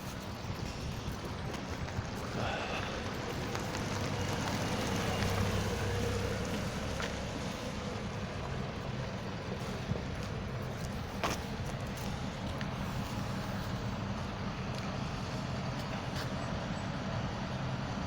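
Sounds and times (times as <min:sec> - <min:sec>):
engine low rumble: 0:00.0 - 0:18.0.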